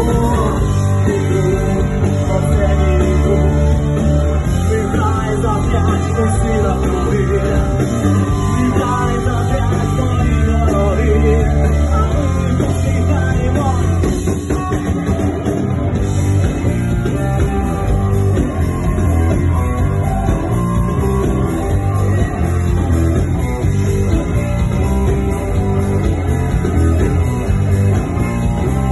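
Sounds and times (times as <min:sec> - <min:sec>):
electric guitar: 0:00.0 - 0:28.9
live rock band: 0:00.0 - 0:28.9.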